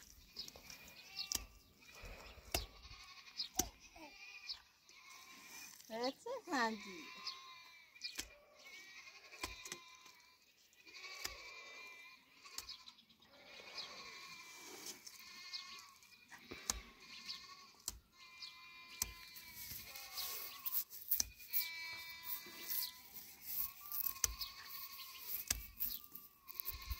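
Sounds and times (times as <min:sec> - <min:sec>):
goats or sheep bleating: 0:00.0 - 0:26.9.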